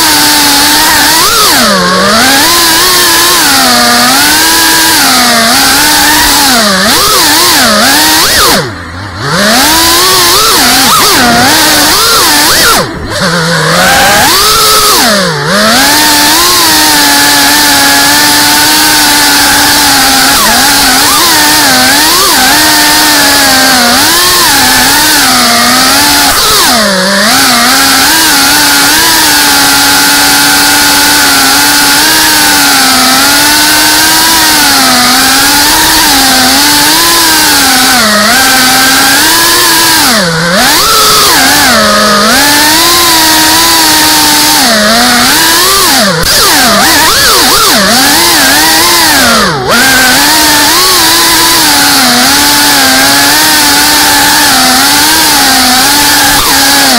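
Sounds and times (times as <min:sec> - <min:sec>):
drone motors and propellers whining: 0:00.0 - 0:56.9.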